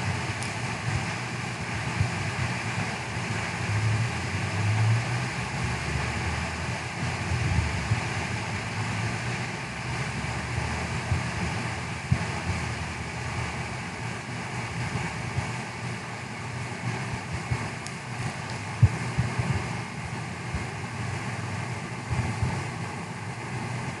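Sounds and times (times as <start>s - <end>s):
spindle whine: 0.0s - 22.7s
milling machine motor hum: 0.0s - 23.7s.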